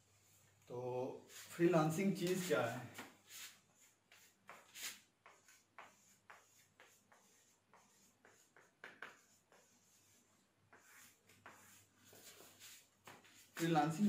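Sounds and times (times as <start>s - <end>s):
marker scratching on whiteboard: 1.2s - 14.0s.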